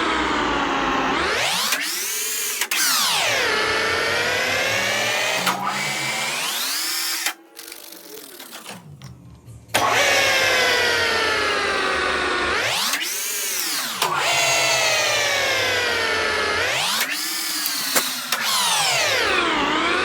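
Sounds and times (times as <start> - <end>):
power tool motor whining: 0.0 - 9.1, 9.7 - 20.0.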